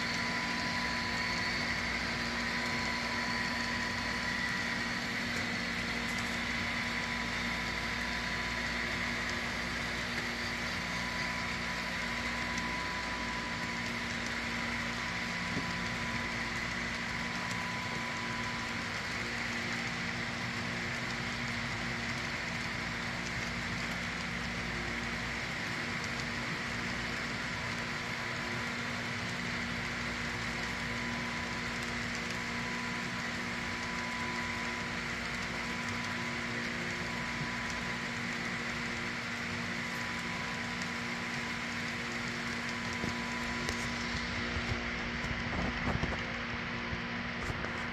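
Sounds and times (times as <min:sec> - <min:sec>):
model train wheels rolling on rails: 0:00.0 - 0:47.9
steady hum: 0:00.0 - 0:47.9.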